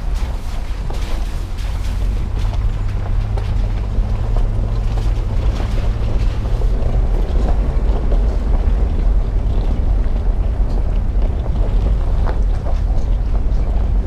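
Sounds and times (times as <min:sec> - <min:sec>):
car engine and tyres rumbling: 0:00.0 - 0:14.0
stones crackling under wheels: 0:00.0 - 0:14.0
wind buffeting microphone: 0:00.0 - 0:14.0.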